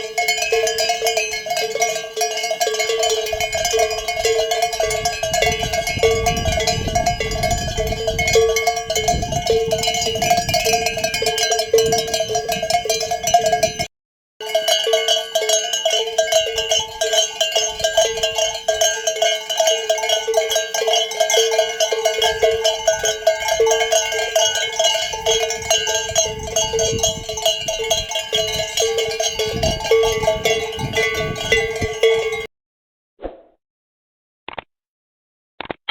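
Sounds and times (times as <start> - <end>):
sheep bells clanging: 0.0 - 32.5.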